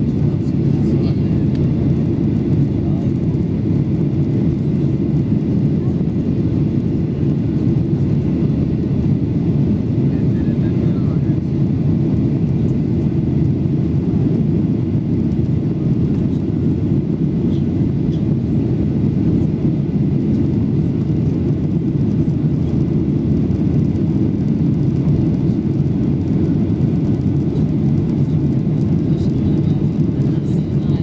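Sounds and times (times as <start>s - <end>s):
airplane cabin engine noise: 0.0s - 31.0s.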